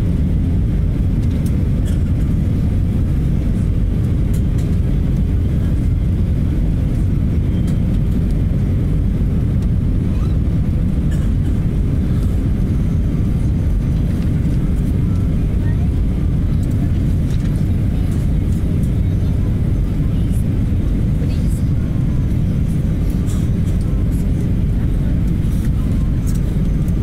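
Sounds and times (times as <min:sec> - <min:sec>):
jet engine and airflow rumble: 0:00.0 - 0:27.0.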